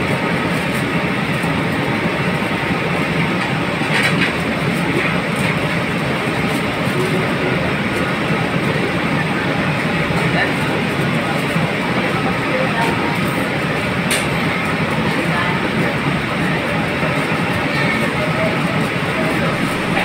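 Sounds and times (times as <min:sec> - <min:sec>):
commercial kitchen rumble: 0:00.0 - 0:20.0.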